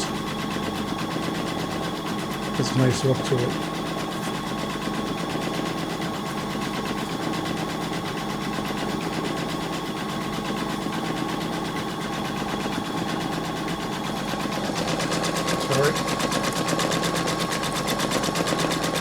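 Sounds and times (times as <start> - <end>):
embroidery machine stitching: 0.0 - 19.0.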